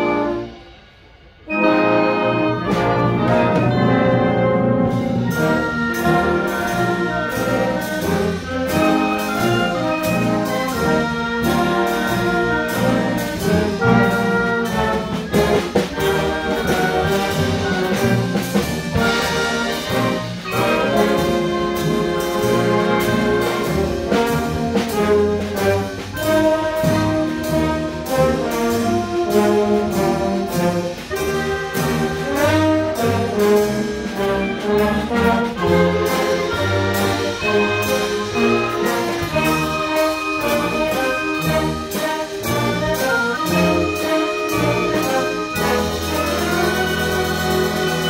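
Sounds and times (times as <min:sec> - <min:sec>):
concert band playing: 0:00.0 - 0:48.0.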